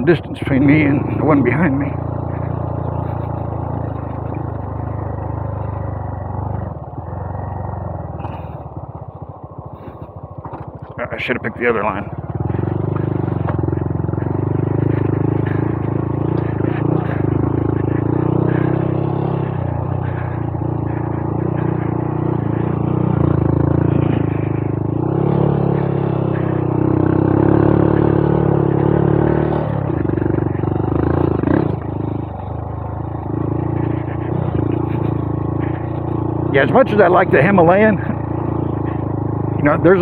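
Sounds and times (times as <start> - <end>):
motorcycle engine under load: 0.0 - 40.0.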